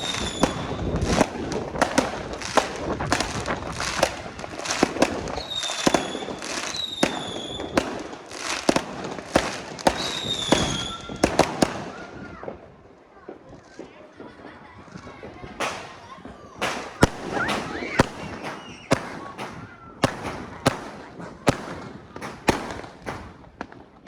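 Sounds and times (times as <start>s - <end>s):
fireworks whistles: 0.0s - 12.6s, 14.8s - 23.7s
fireworks bangs and crackling: 0.0s - 24.0s.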